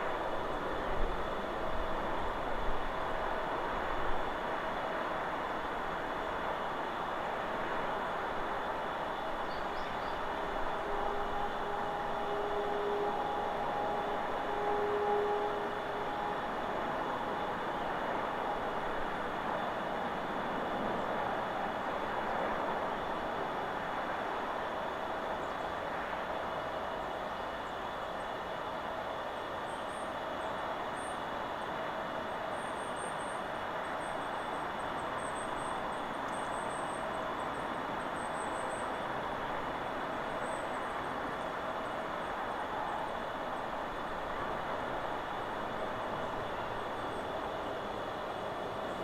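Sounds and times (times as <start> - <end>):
wind through trees: 0.0 - 49.0.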